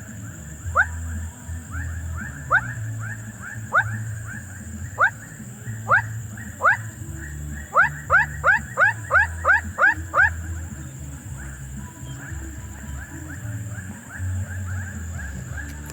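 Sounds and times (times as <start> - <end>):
steady high hiss: 0.0 - 15.9.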